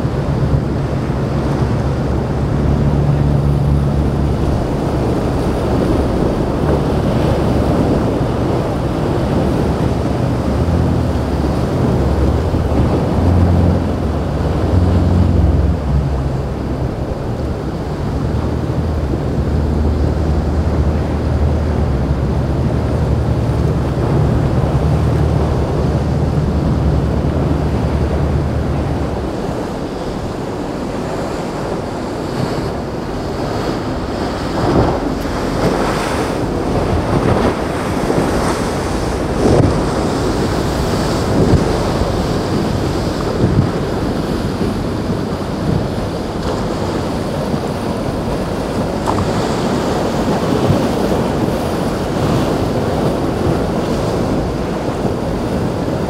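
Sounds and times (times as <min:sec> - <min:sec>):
boat engine drone: 0:00.0 - 0:56.0
rough surf: 0:00.0 - 0:56.0
waves crashing: 0:00.0 - 0:56.0
wind buffeting microphone: 0:00.0 - 0:56.0.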